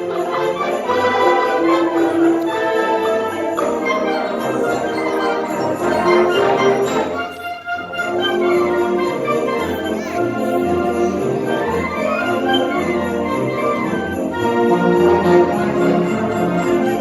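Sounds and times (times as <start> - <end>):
orchestral music with held notes: 0.0 - 17.0.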